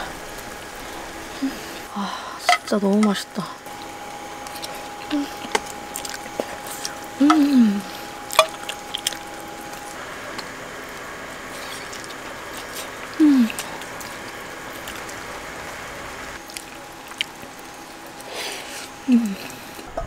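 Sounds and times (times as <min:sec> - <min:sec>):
low hummed mm: 0:00.0 - 0:20.0.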